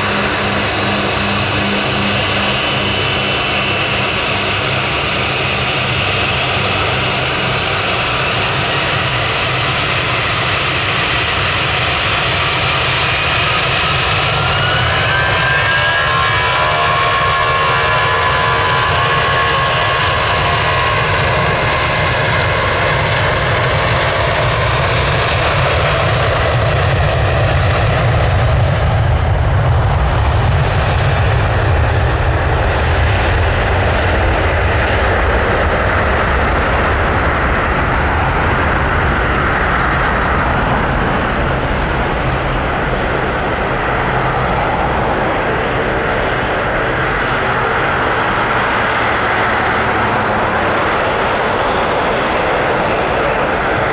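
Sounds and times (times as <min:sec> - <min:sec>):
jet engine rumble: 0:00.0 - 0:53.9.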